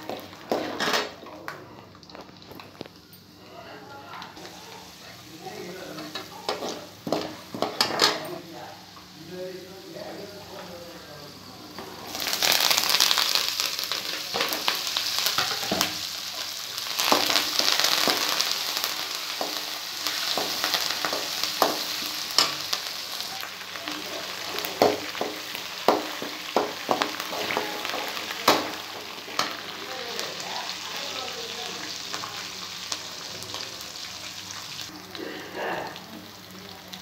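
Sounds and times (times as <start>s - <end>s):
sizzling in hot oil: 0.0s - 1.2s, 4.4s - 37.0s.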